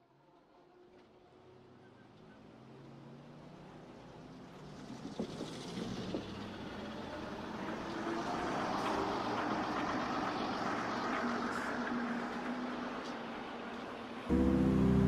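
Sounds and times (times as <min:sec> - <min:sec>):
city traffic noise: 0:00.2 - 0:15.0.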